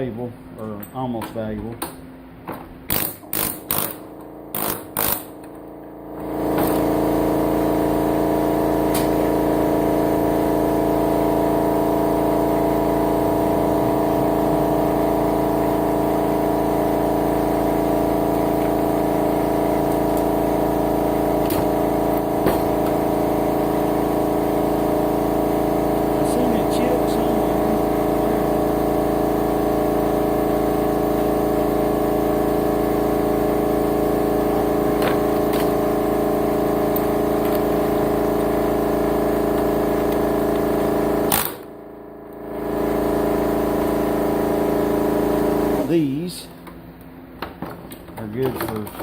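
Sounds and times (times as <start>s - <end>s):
motor running with even hum: 2.9s - 47.8s.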